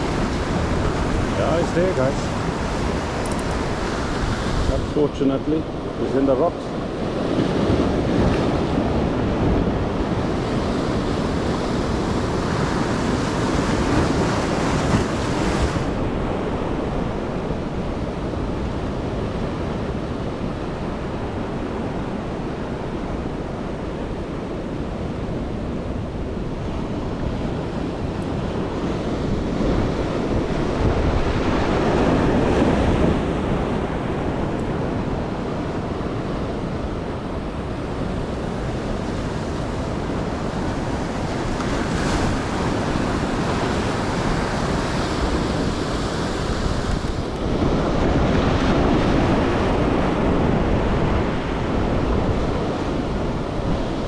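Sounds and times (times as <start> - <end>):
ocean surf washing in: 0.0 - 54.0
wind rumbling on microphone: 0.0 - 54.0.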